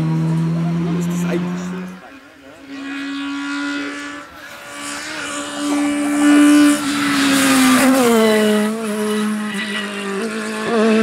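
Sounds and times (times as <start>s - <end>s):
rally car engine passing by: 0.0s - 11.0s.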